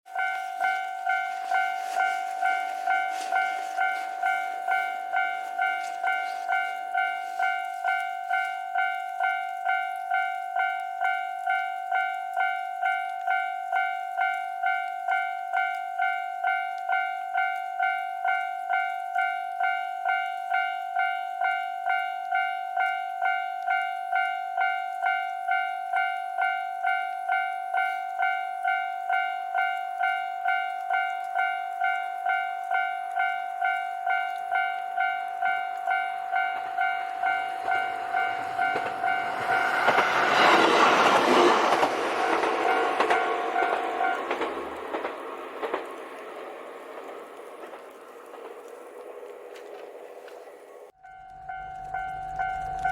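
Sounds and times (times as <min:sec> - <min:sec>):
level crossing bell ringing: 0:00.1 - 0:45.7.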